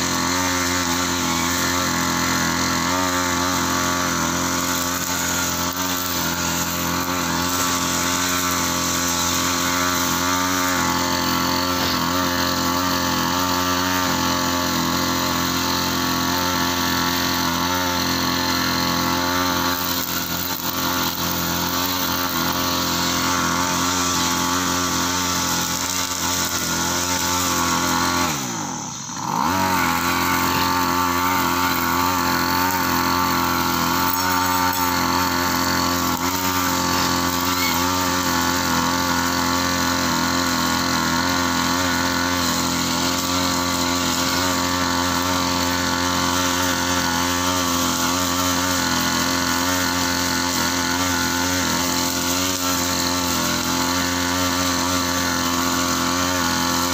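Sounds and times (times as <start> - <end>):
brush cutter engine revving: 0.0 - 56.9.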